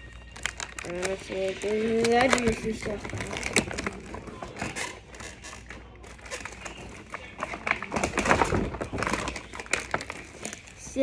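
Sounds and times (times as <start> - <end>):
packaging rustling: 0.0 - 11.0
plastic toys clicking and scraping: 0.0 - 11.0.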